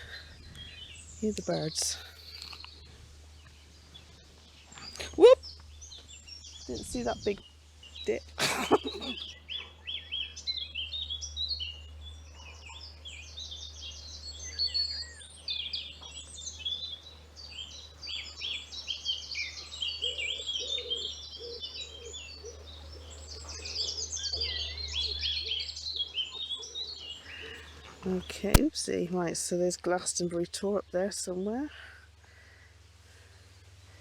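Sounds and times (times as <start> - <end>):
low repeated bird call: 0.0 - 28.6
songbirds chirping and trilling: 0.0 - 34.0.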